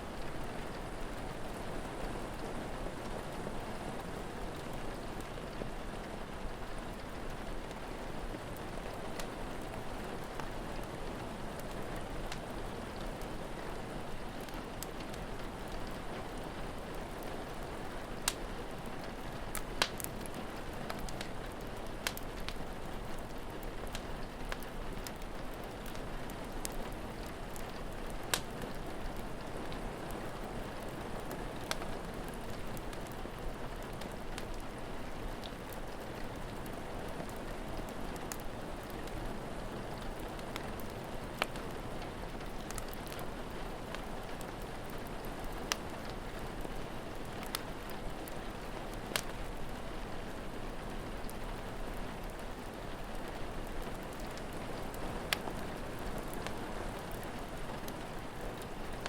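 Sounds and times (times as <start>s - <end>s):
steady rain falling: 0.0s - 59.0s
wood fire crackling and popping: 0.1s - 59.0s.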